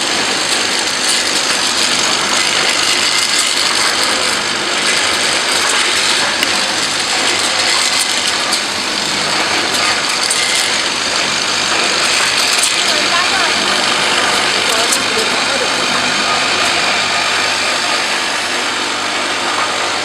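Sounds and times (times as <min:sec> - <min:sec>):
machine clattering: 0:00.0 - 0:18.7
high machine whine: 0:00.0 - 0:20.0.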